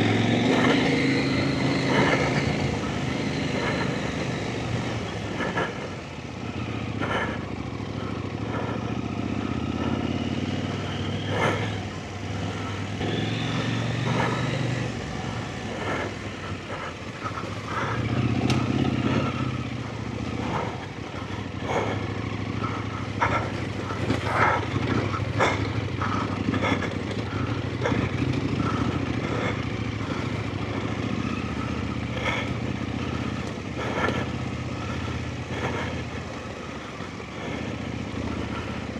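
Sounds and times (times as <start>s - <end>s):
knocks and clatters over rough ground: 0.0s - 38.9s
motorcycle engine at low revs: 0.0s - 38.9s.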